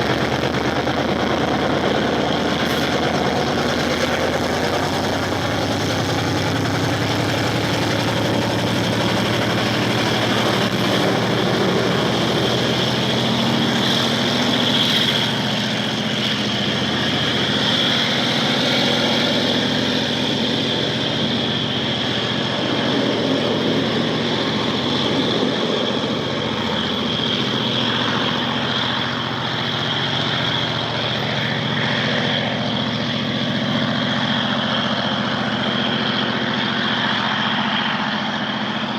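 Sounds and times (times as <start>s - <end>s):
high whine: 0.0s - 38.9s
model locomotive engine drone: 0.0s - 38.9s.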